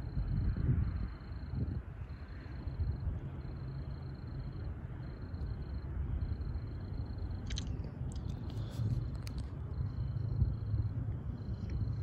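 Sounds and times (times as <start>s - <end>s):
distant diesel locomotive rumble: 0.0s - 12.0s.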